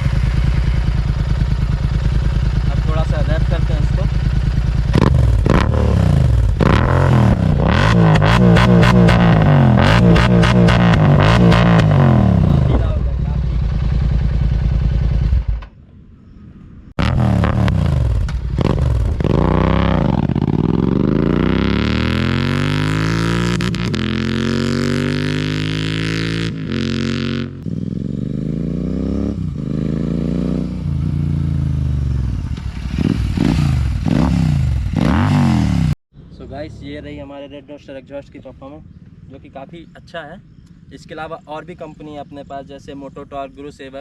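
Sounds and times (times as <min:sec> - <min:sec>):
motorcycle engine revving: 0:00.0 - 0:15.8, 0:16.9 - 0:37.3.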